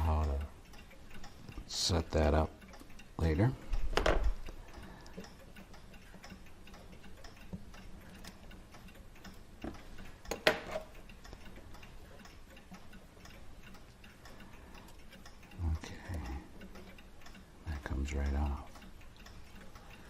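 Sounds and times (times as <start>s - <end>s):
mechanical clock ticking: 0.0s - 20.0s.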